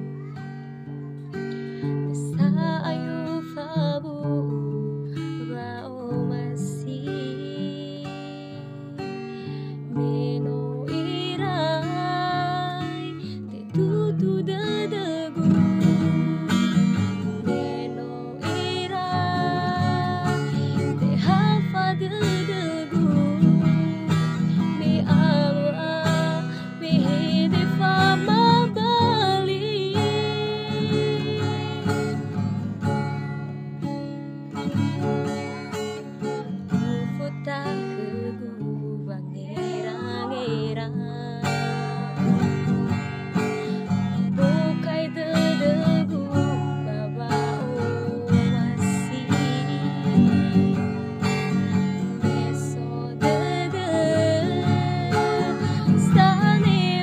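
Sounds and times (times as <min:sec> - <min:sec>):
strummed acoustic guitar: 0:00.0 - 0:57.0
woman singing: 0:01.3 - 0:32.6, 0:36.4 - 0:57.0.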